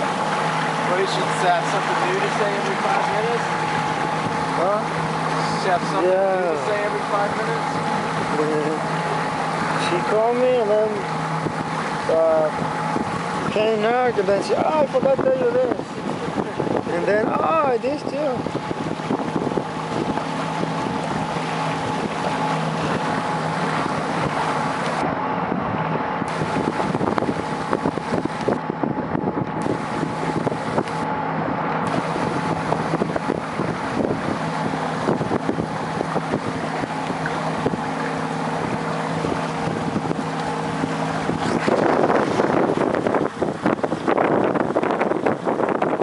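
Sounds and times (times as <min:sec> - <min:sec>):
boat motor running: 0:00.0 - 0:46.0
water rushing: 0:00.0 - 0:46.0
wind on microphone: 0:00.0 - 0:46.0.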